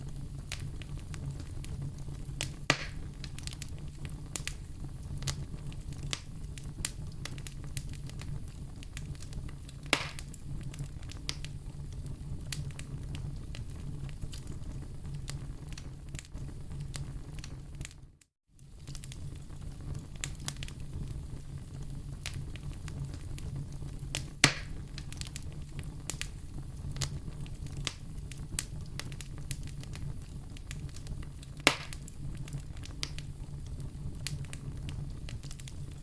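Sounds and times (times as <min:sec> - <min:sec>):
loud fire pops: 0:00.0 - 0:18.0, 0:18.6 - 0:36.0
fire crackling: 0:00.0 - 0:36.0
low rumble of fire: 0:00.0 - 0:36.0.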